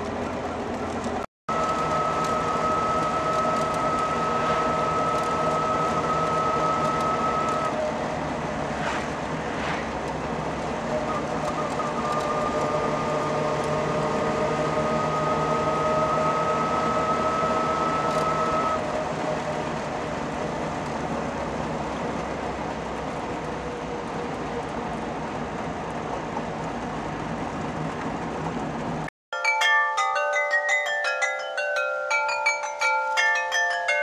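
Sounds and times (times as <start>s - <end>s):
car engine running: 0.0s - 29.1s
road noise: 0.0s - 29.1s.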